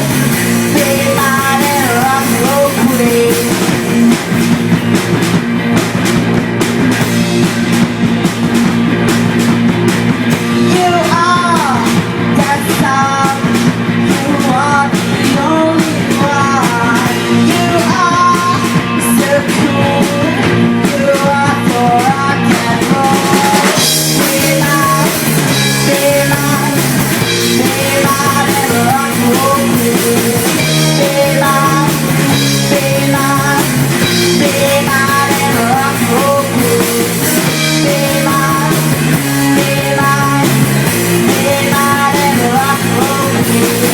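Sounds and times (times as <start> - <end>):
person singing: 0.0 - 4.3, 10.4 - 43.9
rock band playing: 0.0 - 43.9.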